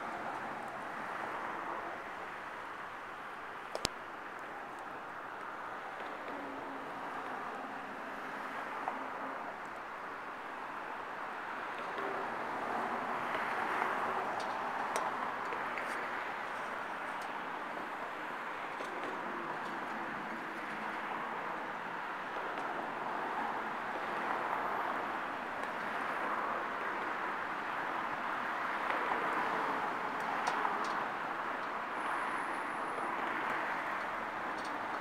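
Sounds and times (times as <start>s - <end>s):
city background hum: 0.0s - 35.0s.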